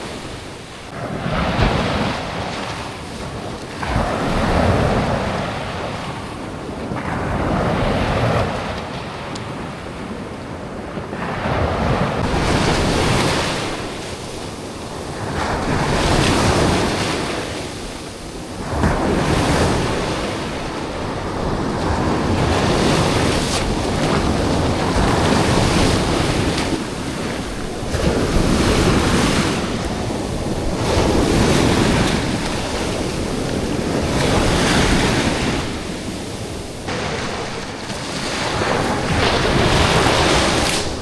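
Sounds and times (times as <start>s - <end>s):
sea waves washing ashore: 0.0s - 41.0s
wind buffeting microphone: 0.0s - 41.0s.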